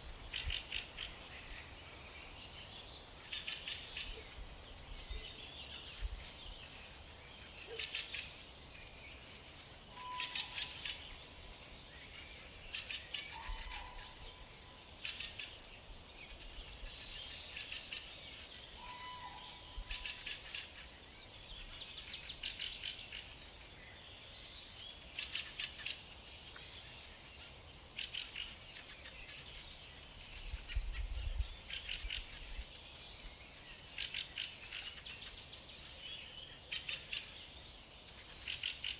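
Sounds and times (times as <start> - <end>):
songbirds chirping: 0.0 - 38.9
steady background hiss: 0.0 - 38.9.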